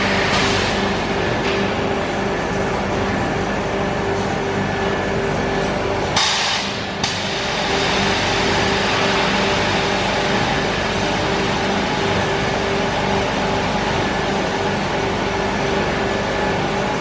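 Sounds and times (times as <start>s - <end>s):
industrial machinery hum: 0.0s - 17.0s.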